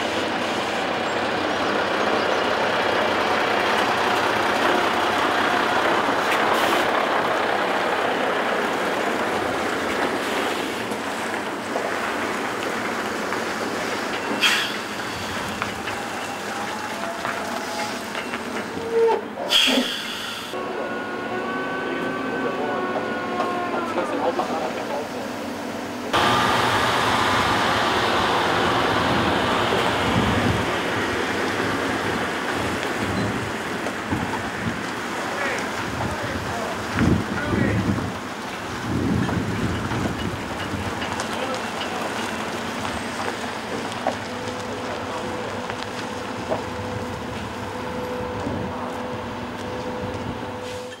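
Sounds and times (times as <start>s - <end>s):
truck rolling past: 0.0s - 51.0s.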